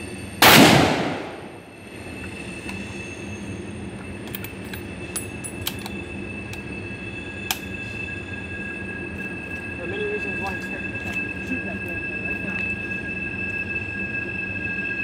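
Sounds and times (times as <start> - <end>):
distant train rumble: 0.0 - 15.0
high-pitched wheel squeal: 1.7 - 4.0, 4.9 - 15.0.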